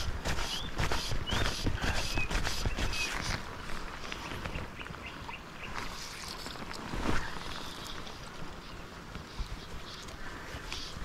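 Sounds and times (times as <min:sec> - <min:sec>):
shallow river water running: 0:00.0 - 0:11.0.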